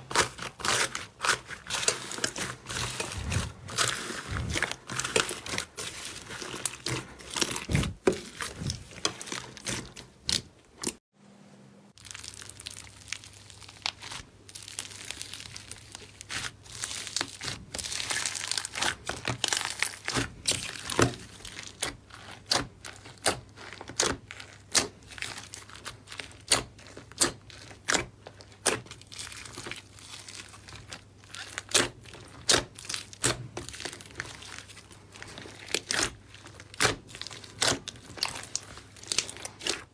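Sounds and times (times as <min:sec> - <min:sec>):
slime crackling and popping: 0:00.1 - 0:11.0, 0:12.0 - 0:39.9.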